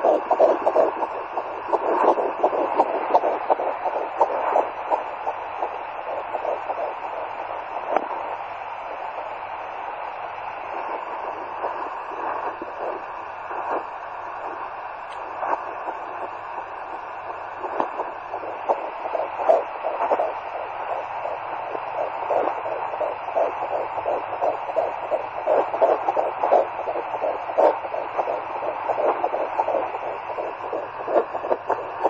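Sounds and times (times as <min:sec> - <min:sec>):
fetal heartbeat pulsing: 0:00.0 - 0:32.0
steady hiss: 0:00.0 - 0:32.0.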